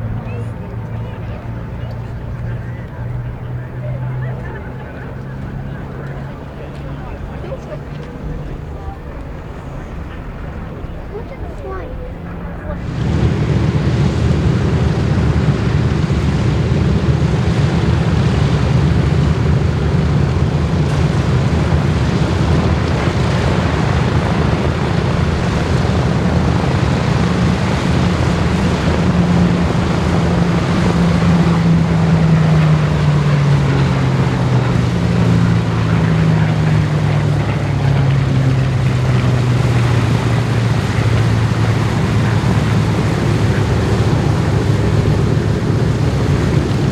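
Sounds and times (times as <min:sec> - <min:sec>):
aircraft radial engines droning: 0:00.0 - 0:46.9.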